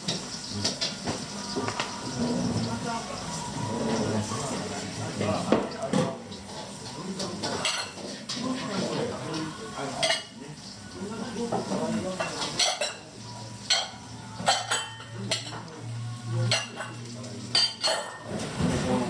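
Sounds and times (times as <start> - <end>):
dishes and utensils clinking: 0.0 - 10.7, 11.3 - 19.0
busy background: 0.0 - 19.0.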